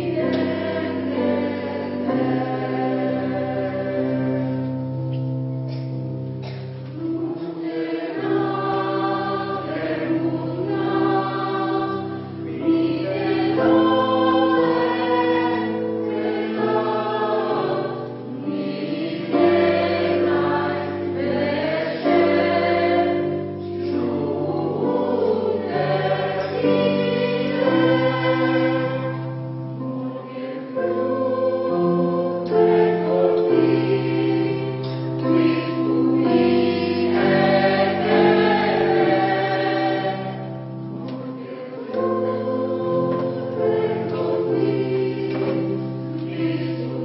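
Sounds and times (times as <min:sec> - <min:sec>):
choir singing: 0:00.0 - 0:05.8, 0:06.4 - 0:47.0.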